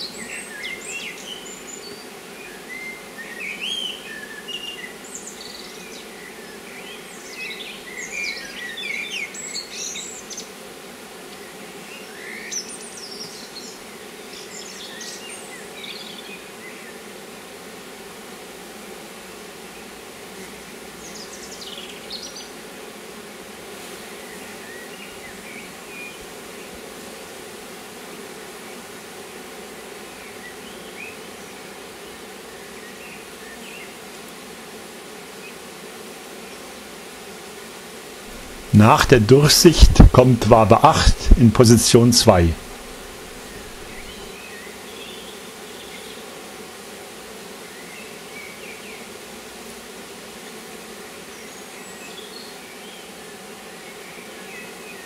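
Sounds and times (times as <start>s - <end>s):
honeybees buzzing: 0.1s - 51.9s.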